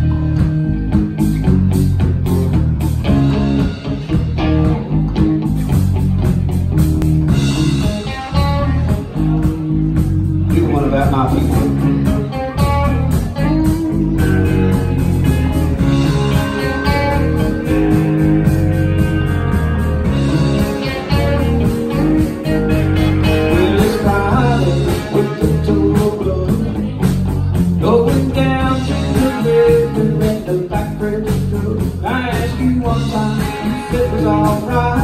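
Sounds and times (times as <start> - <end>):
drum kit beat: 0.0 - 35.0
electric bass: 0.0 - 35.0
electric guitars: 0.0 - 35.0.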